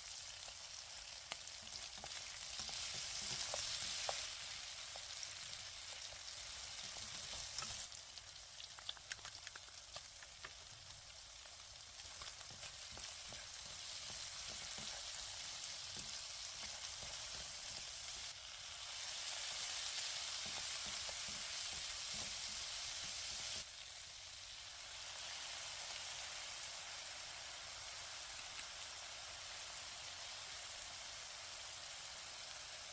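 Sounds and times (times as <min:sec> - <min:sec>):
food sizzling in a frying pan: 0:00.0 - 0:32.9.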